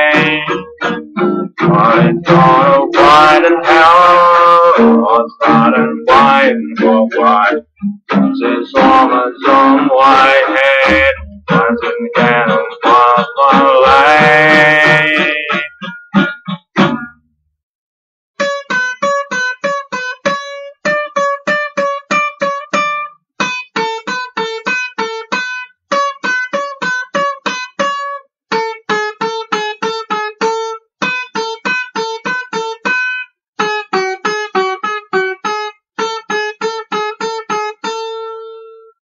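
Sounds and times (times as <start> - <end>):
banjo music: 0.0 - 17.2, 18.4 - 38.9.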